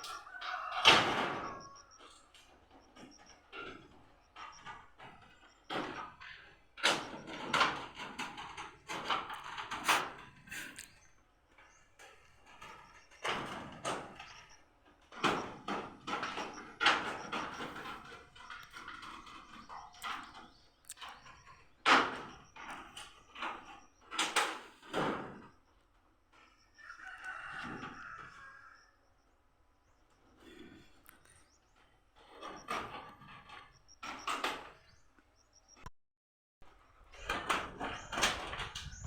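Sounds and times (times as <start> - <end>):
knocks and bangs of repair work: 0.1 - 10.8, 11.5 - 26.5, 31.8 - 35.0, 36.6 - 39.0.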